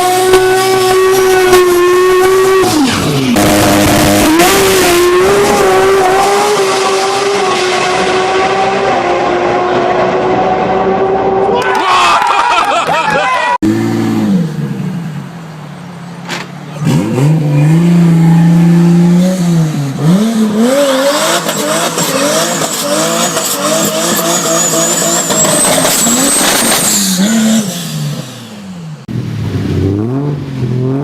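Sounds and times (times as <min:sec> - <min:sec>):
car engine revving: 0:00.0 - 0:11.6, 0:13.6 - 0:31.0.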